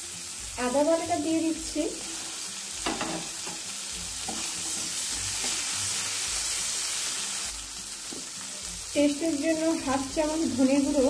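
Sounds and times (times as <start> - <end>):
onion and tomato sizzling in oil: 0.0 - 11.0.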